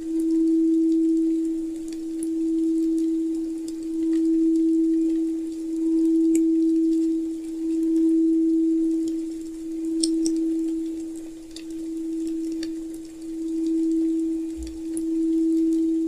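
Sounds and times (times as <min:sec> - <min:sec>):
fire crackling: 0:00.0 - 0:16.0
pulsing pure tone: 0:00.0 - 0:16.0.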